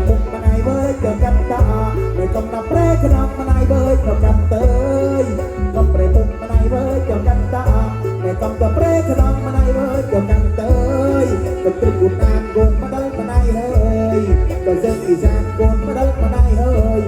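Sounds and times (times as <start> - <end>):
live folk music: 0.0 - 17.0.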